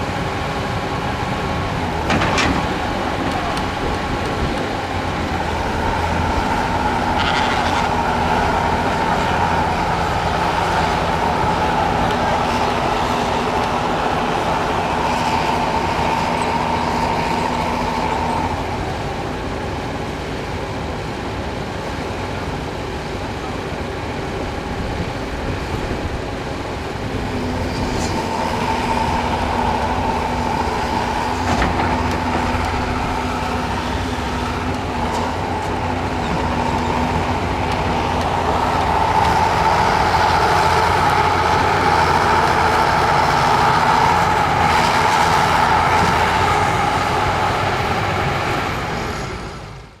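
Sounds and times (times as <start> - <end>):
diesel machinery engine drone: 0.0 - 50.0.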